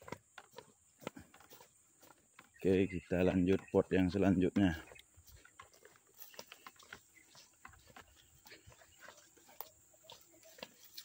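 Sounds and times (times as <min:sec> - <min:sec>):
footsteps through grass: 0:00.0 - 0:11.0.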